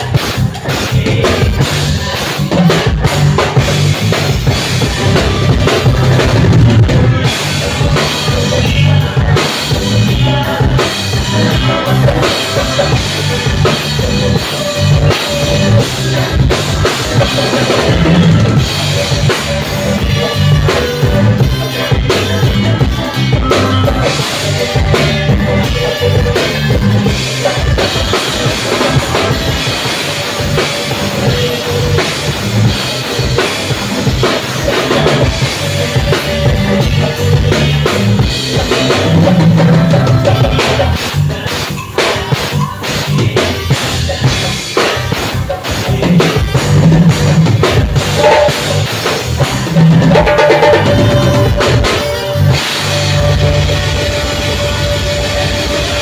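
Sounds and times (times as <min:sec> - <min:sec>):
band playing: 0:00.0 - 0:56.0
rock drum kit: 0:00.0 - 0:56.0.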